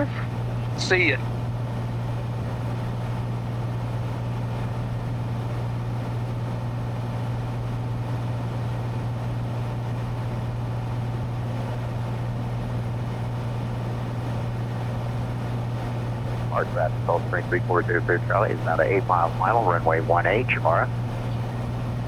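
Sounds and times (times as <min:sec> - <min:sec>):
airplane engine droning in cabin: 0:00.0 - 0:22.0.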